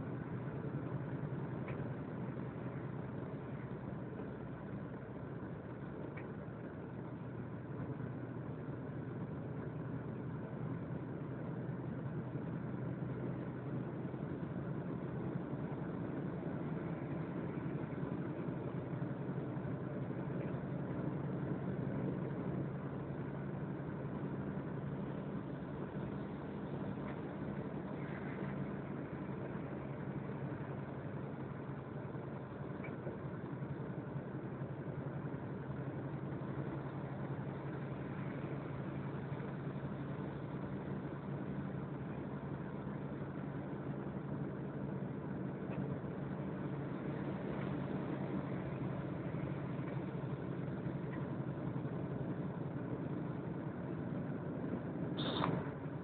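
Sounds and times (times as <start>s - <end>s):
road noise inside vehicle: 0.0s - 56.0s
vehicle engine hum: 0.0s - 56.0s.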